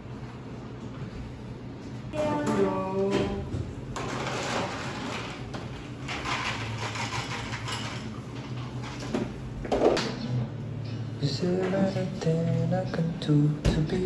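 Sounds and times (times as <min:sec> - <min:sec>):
indistinct room noise: 0:00.0 - 0:14.0
steady low hum: 0:00.0 - 0:14.0.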